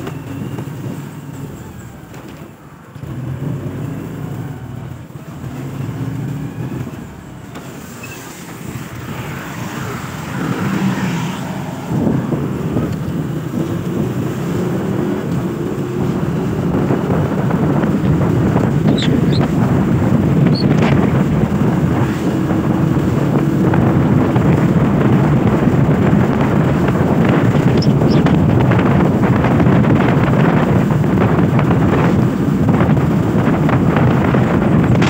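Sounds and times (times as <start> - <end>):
wind rush on microphone: 0.0 - 35.0.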